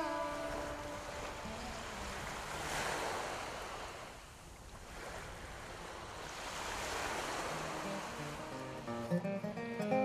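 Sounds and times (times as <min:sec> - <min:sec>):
sea waves washing: 0:00.0 - 0:10.0.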